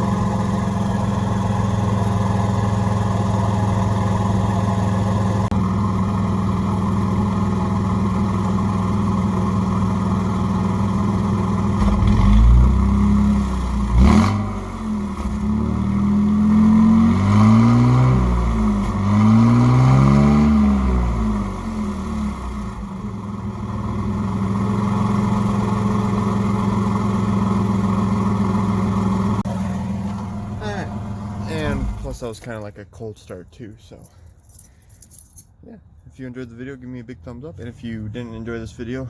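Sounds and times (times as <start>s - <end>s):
truck engine idling and revving: 0.0s - 34.1s.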